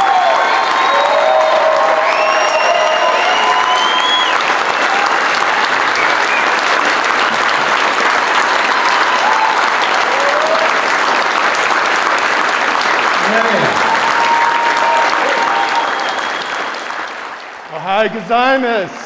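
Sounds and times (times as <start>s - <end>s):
large audience applauding: 0.0s - 19.0s.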